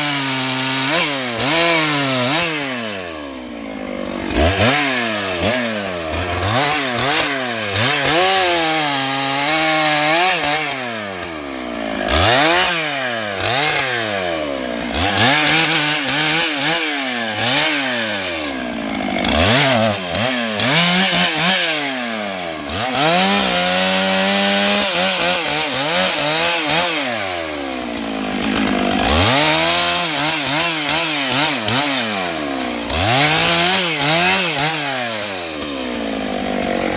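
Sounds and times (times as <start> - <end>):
chainsaw revving: 0.0 - 36.9.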